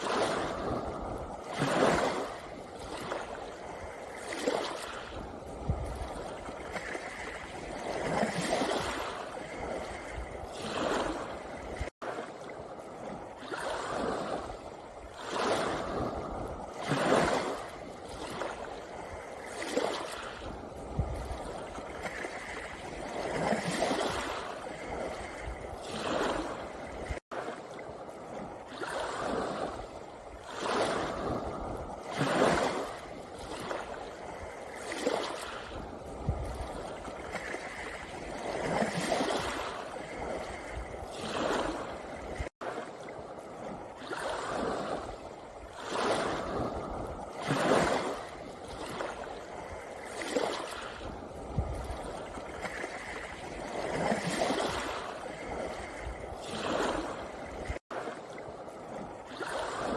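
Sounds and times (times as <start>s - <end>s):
waves on a pebble beach: 0.0s - 59.9s.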